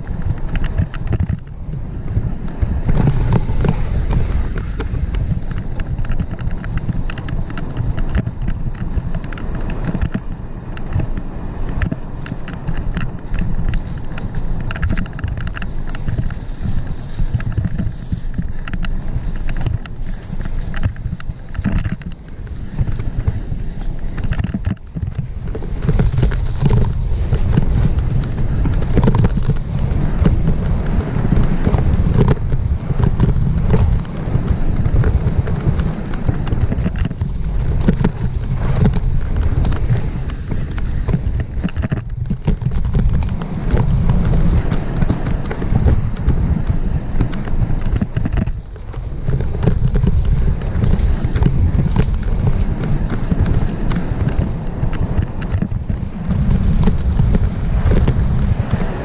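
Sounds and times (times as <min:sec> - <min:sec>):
mountain bike rattling on dirt trail: 0:00.0 - 0:59.0
wind buffeting microphone: 0:00.0 - 0:59.0.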